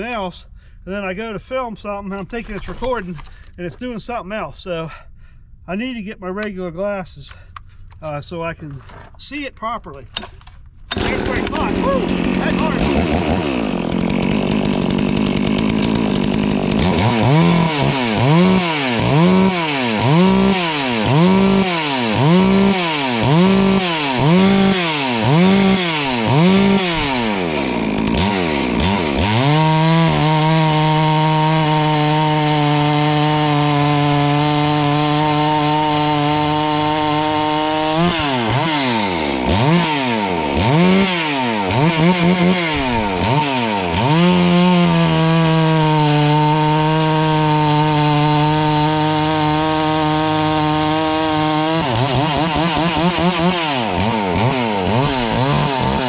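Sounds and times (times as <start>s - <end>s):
chainsaw cutting wood: 10.2s - 56.0s.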